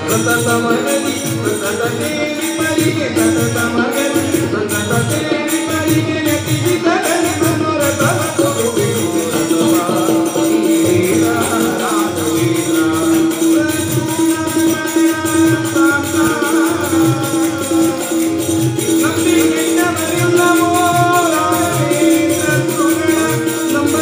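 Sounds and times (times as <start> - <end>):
harmonium drone: 0.0 - 24.0
person singing: 0.0 - 24.0.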